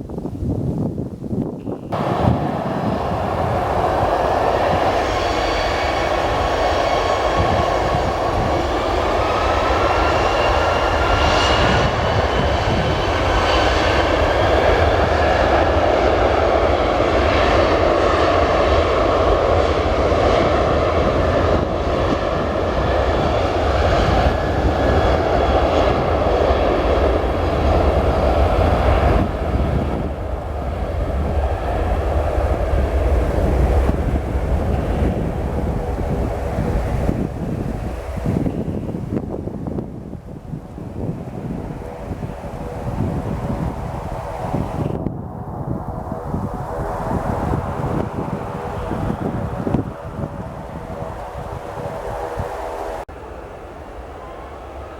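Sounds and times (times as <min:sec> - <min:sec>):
jet engine deep rumble: 0:00.0 - 0:54.9
jet engine whine: 0:00.0 - 0:54.9.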